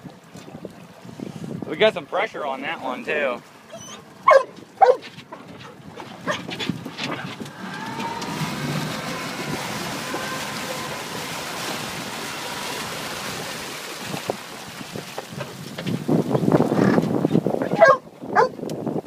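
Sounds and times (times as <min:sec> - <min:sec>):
water rushing beside a boat: 0:00.0 - 0:19.0.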